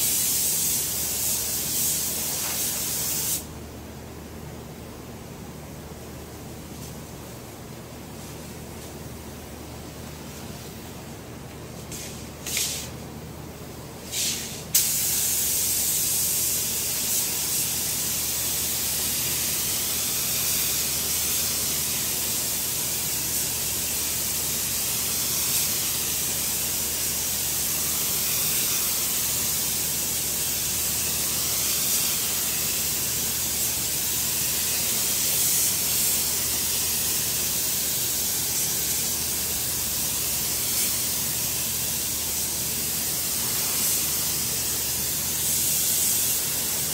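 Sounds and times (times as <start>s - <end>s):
spray gun air hiss: 0.0s - 3.5s, 11.8s - 13.0s, 14.0s - 46.9s.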